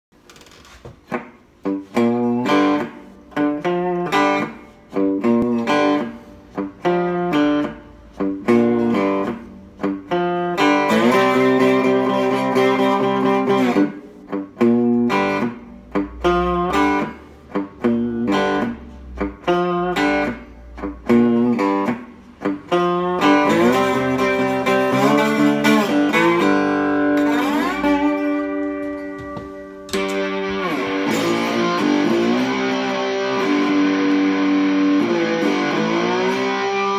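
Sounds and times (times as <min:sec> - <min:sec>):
slide guitar playing: 0:01.0 - 0:36.9.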